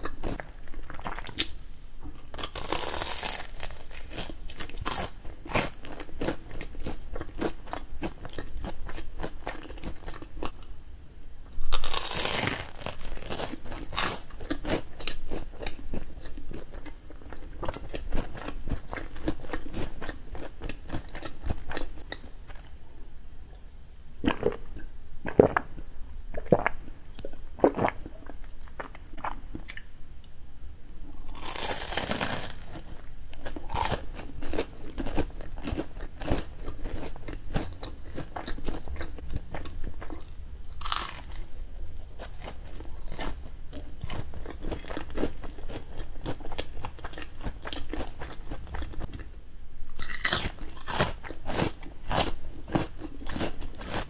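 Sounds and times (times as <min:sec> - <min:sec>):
chewing crunchy food: 0:00.0 - 0:10.7, 0:11.6 - 0:22.7, 0:24.2 - 0:29.9, 0:31.3 - 0:41.5, 0:42.2 - 0:49.3, 0:49.9 - 0:54.0.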